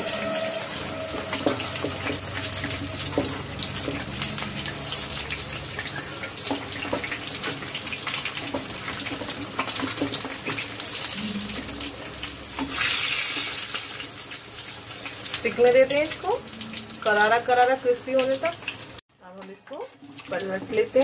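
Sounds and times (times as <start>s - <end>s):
food deep-frying in hot oil: 0.0s - 21.0s.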